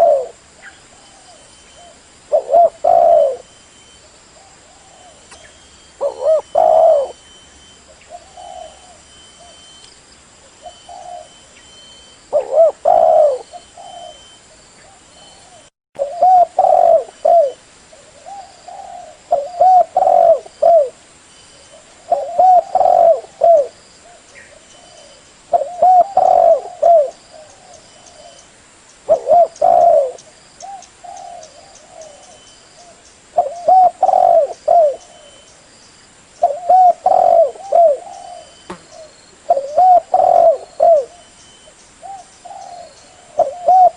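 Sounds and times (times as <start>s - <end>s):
dove cooing: 0.0s - 3.6s, 4.4s - 9.8s, 10.6s - 11.6s, 12.3s - 21.0s, 21.7s - 28.4s, 29.1s - 35.5s, 36.4s - 41.3s, 42.0s - 43.9s.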